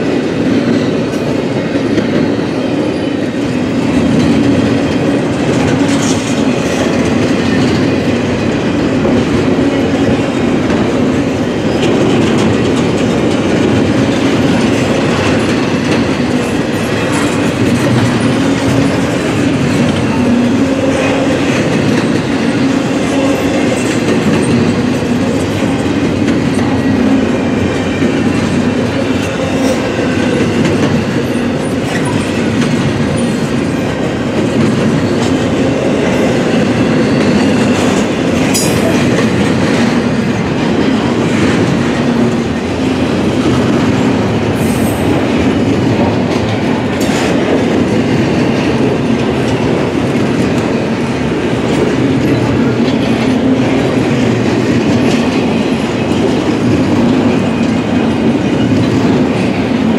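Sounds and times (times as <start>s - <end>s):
freight train cars rolling: 0.0s - 59.9s.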